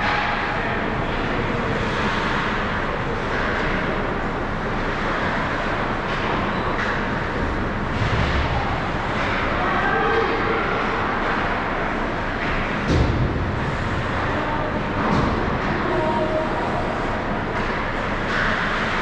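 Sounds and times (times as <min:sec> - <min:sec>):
crowd noise: 0:00.0 - 0:19.0.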